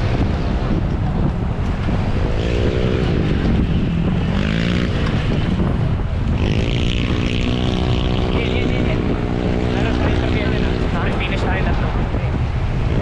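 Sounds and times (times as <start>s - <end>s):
motor vehicle engine revving: 0.0s - 13.0s
wind rushing on microphone: 0.0s - 13.0s.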